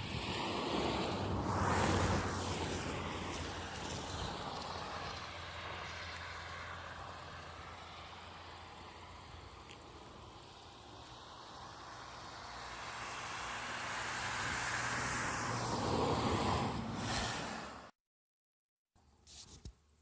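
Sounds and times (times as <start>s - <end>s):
vehicle passing by: 0.0s - 9.5s, 10.4s - 17.9s.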